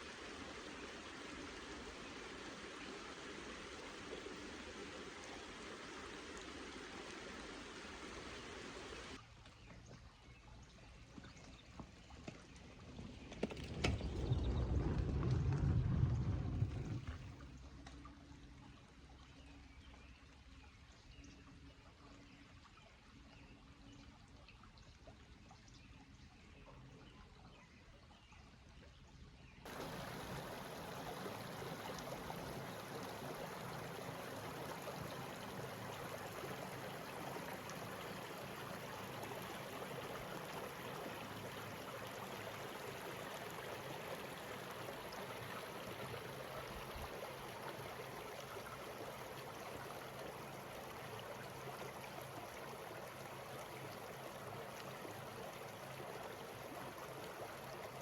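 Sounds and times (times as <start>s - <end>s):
stream water running: 0.0s - 27.0s, 27.6s - 58.0s.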